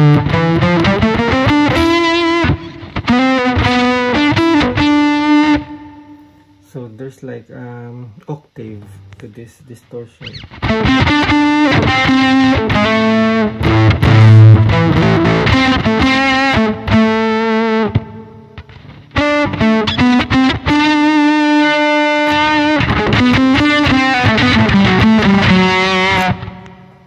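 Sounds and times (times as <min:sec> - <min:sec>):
fuzz electric guitar: 0:00.0 - 0:07.2, 0:08.7 - 0:27.0.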